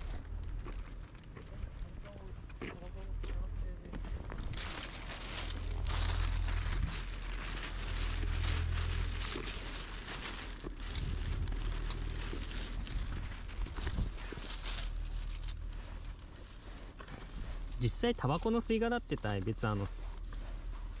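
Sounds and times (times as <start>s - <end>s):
plastic bag rustling: 0.0s - 2.5s, 3.8s - 20.7s
steady low rumble: 0.0s - 21.0s.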